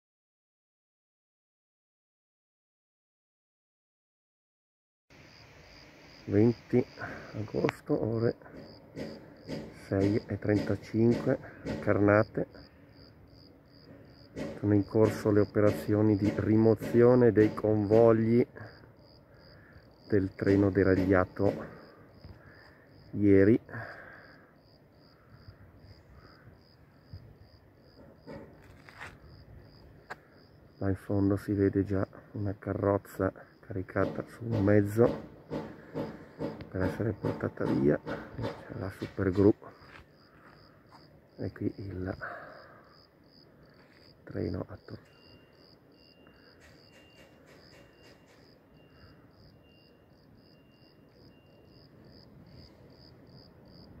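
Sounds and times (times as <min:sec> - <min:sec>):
cricket chirping: 0:05.1 - 0:54.0.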